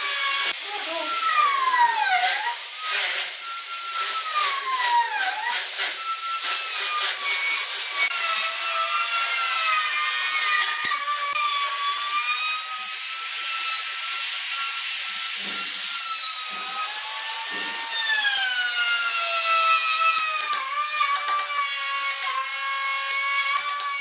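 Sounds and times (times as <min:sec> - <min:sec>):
router cutting wood: 0:00.0 - 0:24.0.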